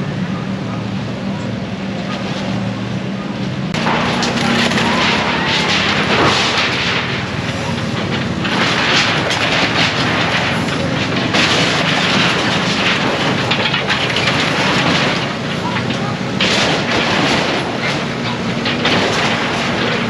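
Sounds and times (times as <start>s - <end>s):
engine humming: 0.0s - 20.0s
debris clattering and crashing: 3.6s - 20.0s.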